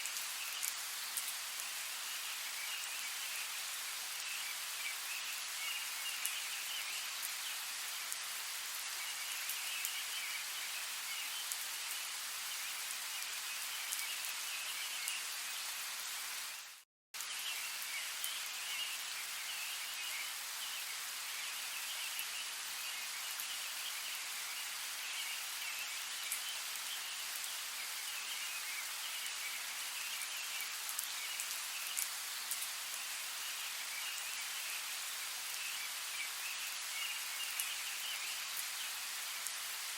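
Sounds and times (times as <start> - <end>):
faint high chirping chorus: 0.0 - 16.6, 17.2 - 39.9
steady rain: 0.0 - 39.9.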